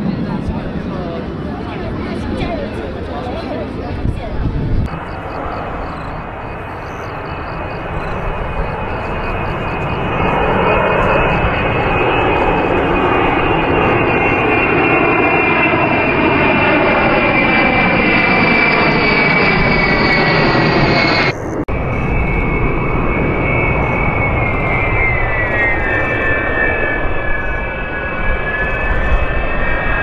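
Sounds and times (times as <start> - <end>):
high engine whine: 0.0 - 30.0
jet flying overhead: 0.0 - 30.0.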